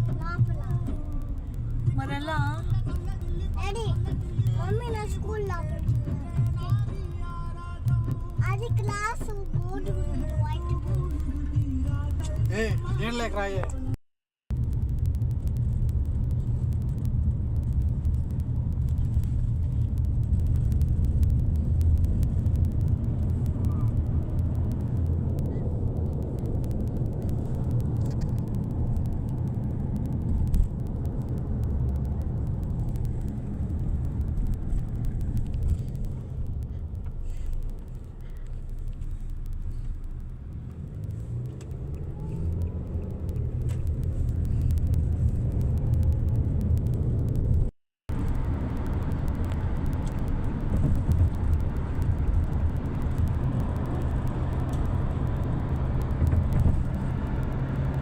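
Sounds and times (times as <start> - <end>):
car cabin road noise: 0.0 - 58.0.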